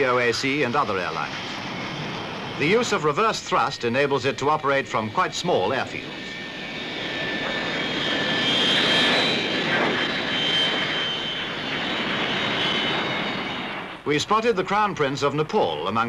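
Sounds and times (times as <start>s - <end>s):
jet engines whining and rushing: 0.0s - 16.0s.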